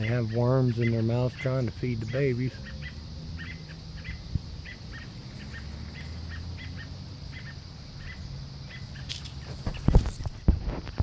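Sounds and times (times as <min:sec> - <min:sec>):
bird alarm chirps: 0:00.0 - 0:09.9.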